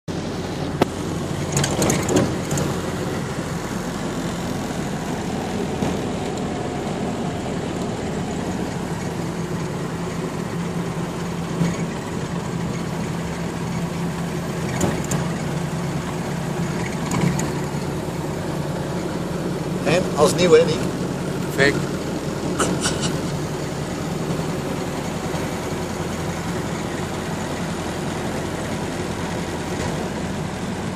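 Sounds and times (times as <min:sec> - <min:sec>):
car engine running: 0:00.0 - 0:30.9
road noise: 0:00.0 - 0:30.9.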